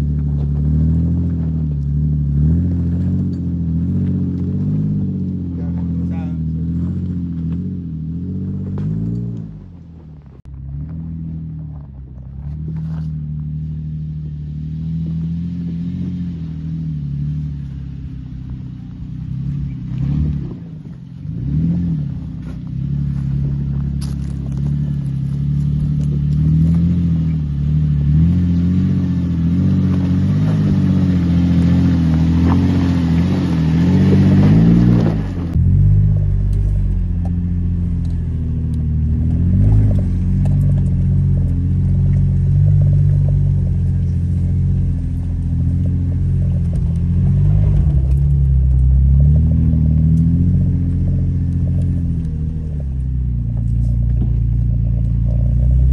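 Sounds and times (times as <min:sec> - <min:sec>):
engine labouring uphill: 0:00.0 - 0:55.9.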